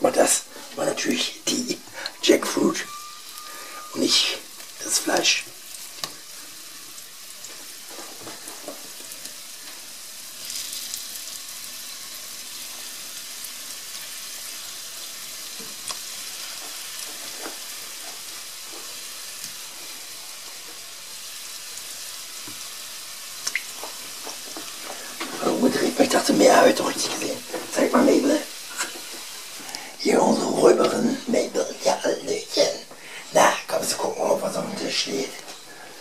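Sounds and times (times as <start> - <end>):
fruit sizzling in hot oil: 0.0 - 36.0.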